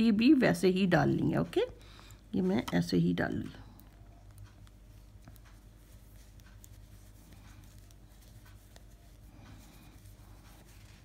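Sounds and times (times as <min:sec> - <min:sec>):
knitting needles ticking: 0:00.0 - 0:11.0
steady low hum: 0:00.0 - 0:11.0.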